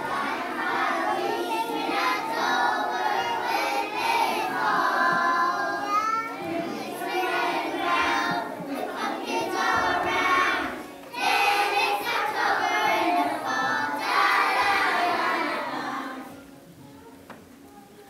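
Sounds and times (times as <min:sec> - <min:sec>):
children singing together: 0:00.0 - 0:16.6.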